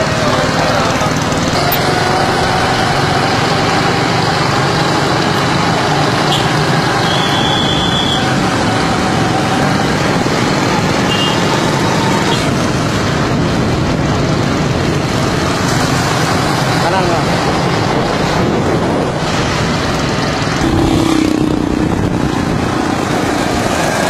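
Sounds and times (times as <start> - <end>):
traffic road noise: 0.0 - 24.0.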